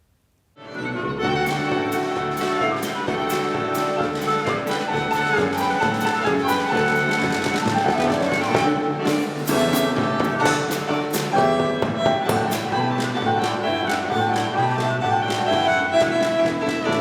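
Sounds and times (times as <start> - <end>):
clarinet: 0.6 - 17.0
piano: 0.6 - 17.0
violin: 0.6 - 17.0
acoustic bass: 0.7 - 17.0
steady drum beat: 1.3 - 17.0.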